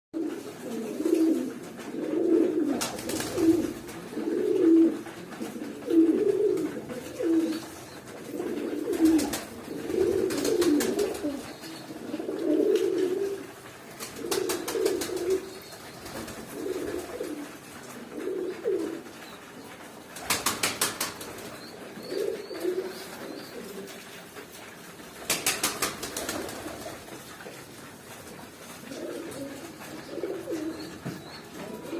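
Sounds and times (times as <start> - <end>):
pigeons cooing: 0.2 - 31.9.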